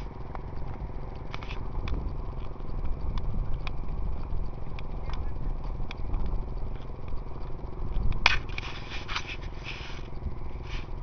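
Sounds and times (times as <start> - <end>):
bicycle rumbling across bridge: 0.0 - 11.0.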